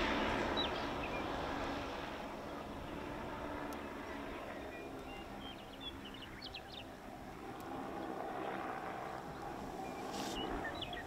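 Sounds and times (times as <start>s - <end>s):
aircraft propellers humming overhead: 0.0s - 11.0s.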